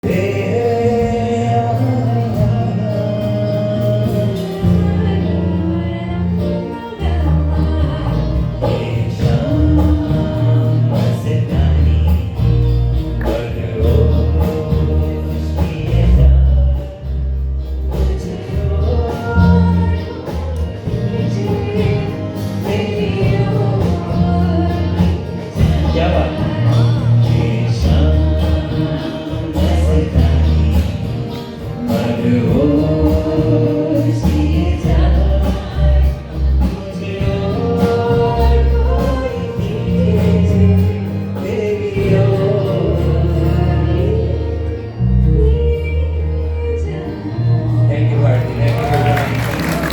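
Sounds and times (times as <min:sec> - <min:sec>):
strong bass line: 0:00.0 - 0:46.3
live band playing: 0:00.0 - 0:49.9
person singing: 0:00.0 - 0:49.9.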